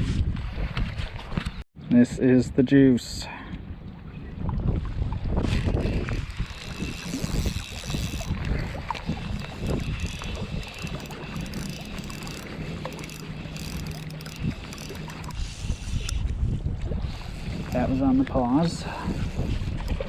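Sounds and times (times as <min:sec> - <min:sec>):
wind buffeting microphone: 0:00.0 - 0:01.6, 0:03.5 - 0:20.0.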